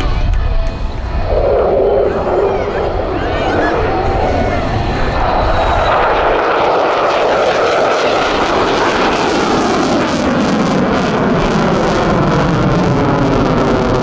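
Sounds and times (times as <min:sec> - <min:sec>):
fighter jet flying by: 0:00.2 - 0:14.0.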